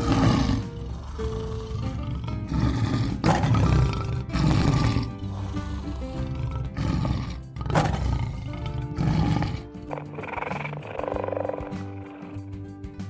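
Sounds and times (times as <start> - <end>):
loud animal roars: 0.0 - 12.4
background music: 0.0 - 13.0.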